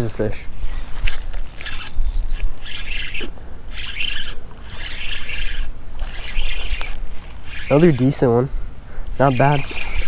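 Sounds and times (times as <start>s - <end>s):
rhythmic rasping rubs: 1.0s - 8.4s, 9.2s - 10.0s.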